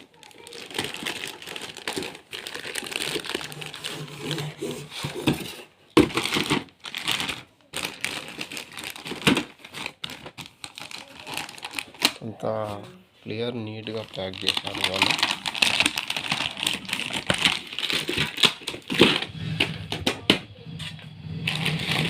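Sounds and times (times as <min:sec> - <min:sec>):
packaging crinkling: 0:00.0 - 0:12.2, 0:13.6 - 0:19.3, 0:21.4 - 0:22.0.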